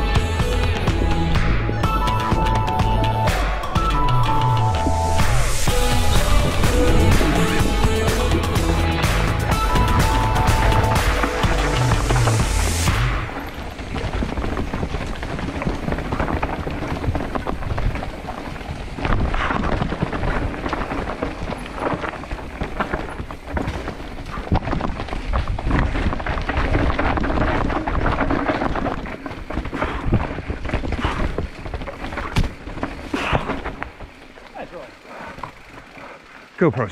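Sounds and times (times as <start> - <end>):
bike tyres bumping over rocks: 0.0 - 36.9.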